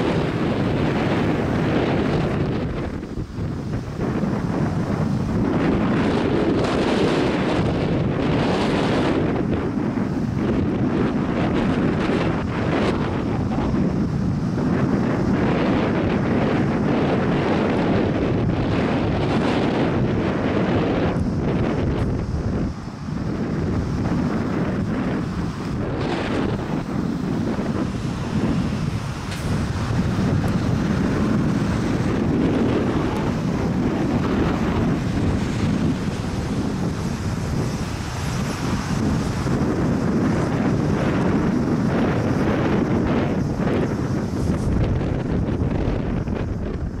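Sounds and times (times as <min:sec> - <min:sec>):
strong wind buffeting microphone: 0:00.0 - 0:47.0.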